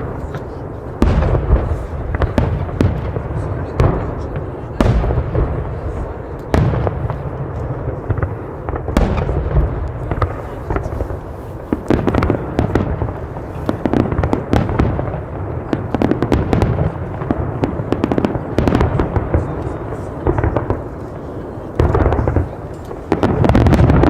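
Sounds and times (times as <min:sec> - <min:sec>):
fireworks banging: 0:00.0 - 0:24.0
fireworks crackling pops: 0:00.0 - 0:24.0.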